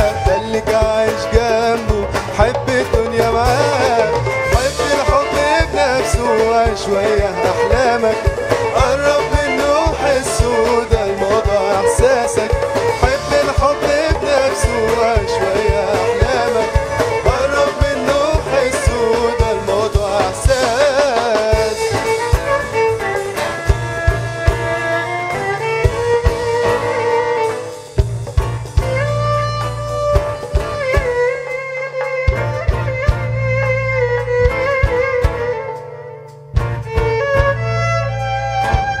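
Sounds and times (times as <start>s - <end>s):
live folk band playing: 0.0s - 39.0s
melodic lead line: 0.0s - 39.0s
steady drum beat: 0.0s - 39.0s.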